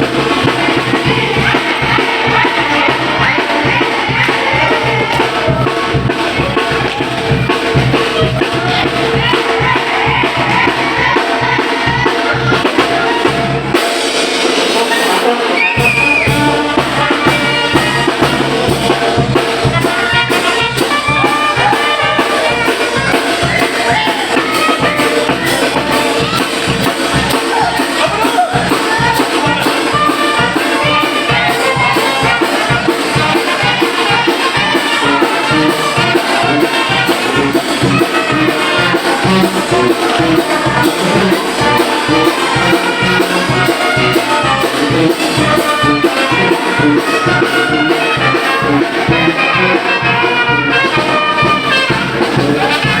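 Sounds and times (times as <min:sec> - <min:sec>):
brass band playing: 0:00.0 - 0:53.0
steady drum beat: 0:00.0 - 0:53.0
trumpets and trombones melody: 0:00.0 - 0:53.0.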